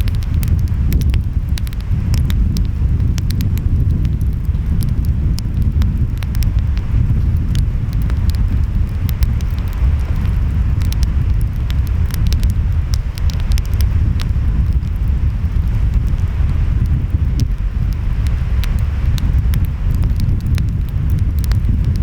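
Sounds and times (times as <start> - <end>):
wind: 0.0 - 22.0
wood fire crackling and popping: 0.0 - 22.0.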